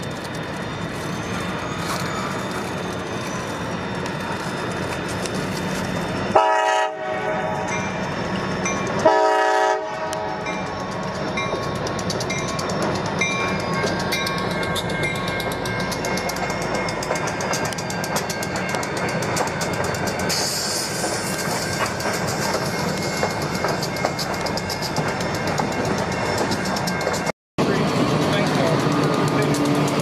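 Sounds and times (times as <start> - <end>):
train wheels clicking over rail joints: 0.0 - 6.4, 7.4 - 30.0
diesel locomotive engines running: 0.0 - 30.0.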